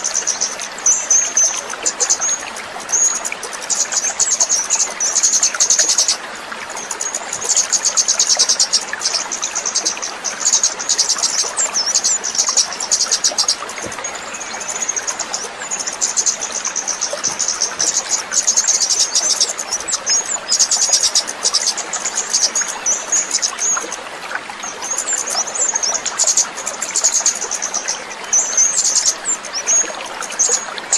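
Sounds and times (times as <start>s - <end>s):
stream running: 0.0s - 30.9s.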